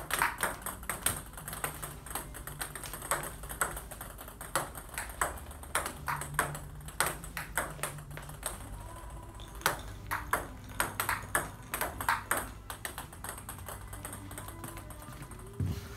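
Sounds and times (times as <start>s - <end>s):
table tennis ball clicks: 0.0s - 15.5s.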